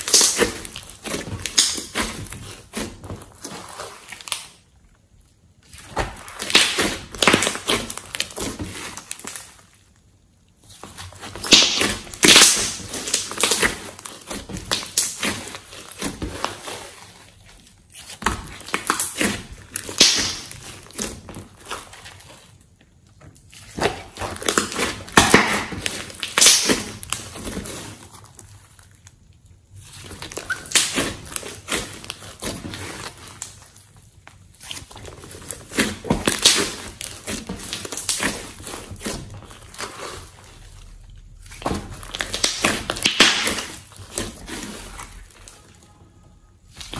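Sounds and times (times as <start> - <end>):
slime squelching and popping: 0.0 - 46.9.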